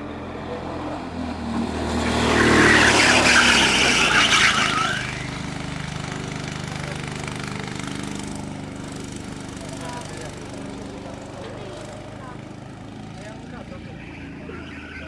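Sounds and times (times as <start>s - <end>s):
go-kart engine passing: 0.0s - 15.0s.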